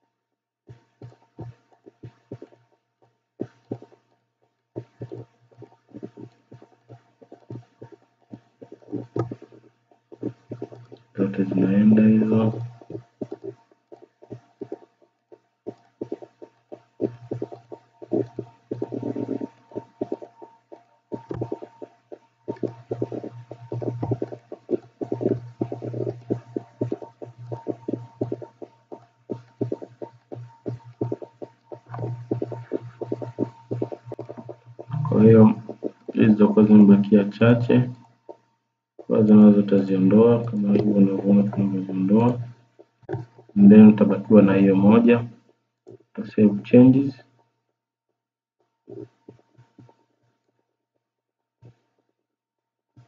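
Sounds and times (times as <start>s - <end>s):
low electrical hum: 0.7s - 45.5s.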